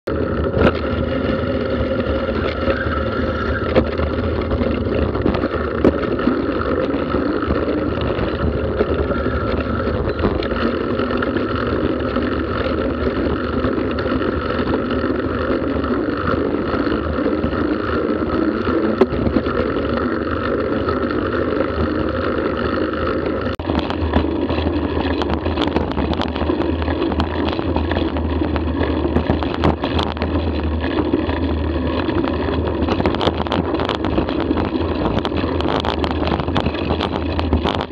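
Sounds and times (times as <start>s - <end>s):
bicycle tyre road rumble: 0.0s - 37.9s
wind on microphone: 0.0s - 37.9s.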